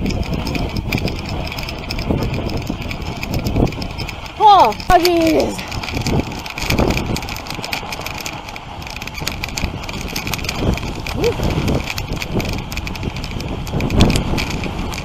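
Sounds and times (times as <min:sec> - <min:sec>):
sled frame rattling: 0:00.0 - 0:15.0
sled runners scraping snow: 0:00.0 - 0:15.0.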